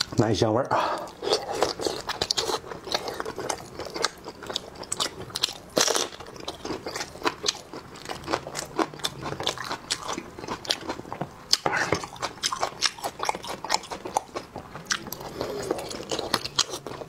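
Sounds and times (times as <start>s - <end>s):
chewing with mouth clicks: 0.9s - 17.0s.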